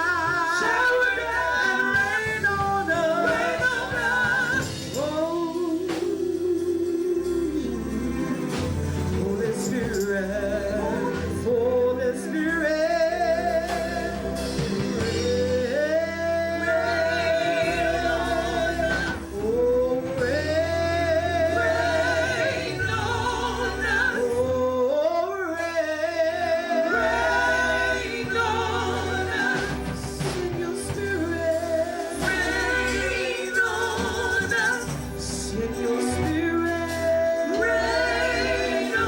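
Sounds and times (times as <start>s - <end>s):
gospel singing: 0.0s - 39.0s
live band: 0.0s - 39.0s.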